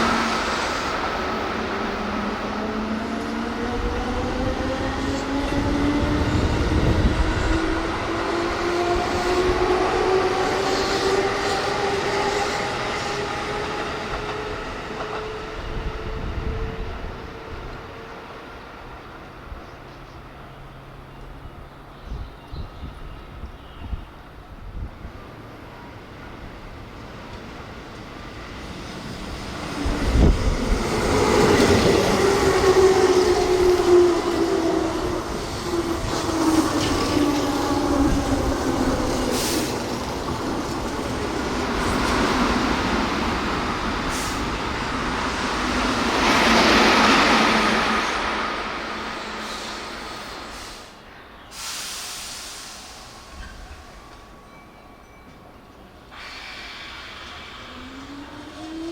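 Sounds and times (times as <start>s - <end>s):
electric train approaching: 0.0s - 22.2s, 24.2s - 58.9s.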